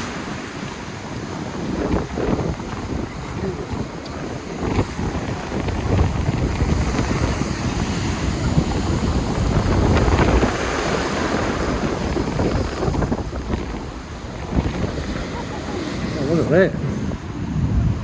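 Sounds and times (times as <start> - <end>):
waves breaking on shore: 0.0 - 18.0
wind buffeting microphone: 0.0 - 18.0.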